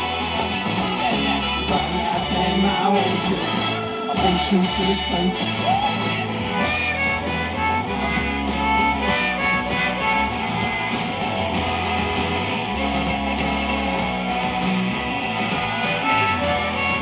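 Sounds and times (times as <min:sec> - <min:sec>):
bass line: 0:00.0 - 0:17.0
guitars playing: 0:00.0 - 0:17.0.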